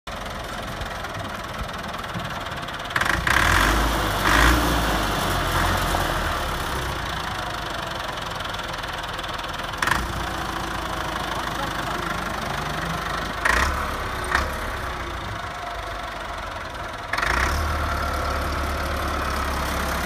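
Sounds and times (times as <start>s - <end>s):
tractor diesel engine idling and revving: 0.1s - 20.0s.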